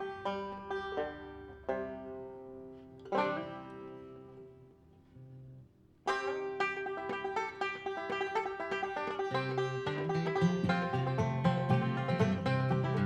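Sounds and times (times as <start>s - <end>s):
banjo playing: 0.0s - 13.0s.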